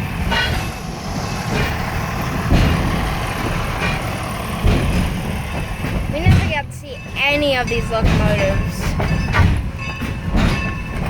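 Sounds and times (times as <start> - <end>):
heavy thumps: 0.0 - 11.0
train rumbling along track: 0.0 - 11.0.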